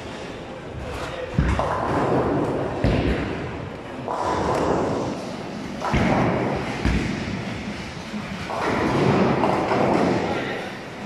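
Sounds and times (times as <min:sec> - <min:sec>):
bowling balls thudding: 0:01.3 - 0:10.4.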